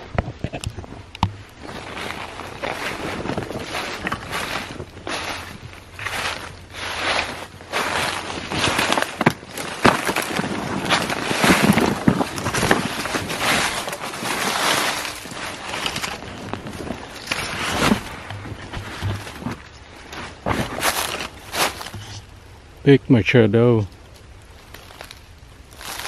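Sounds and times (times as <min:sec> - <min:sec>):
twigs snapping: 0:00.4 - 0:22.4, 0:23.9 - 0:26.0
footsteps rustling through grass: 0:01.3 - 0:22.4, 0:24.1 - 0:26.0.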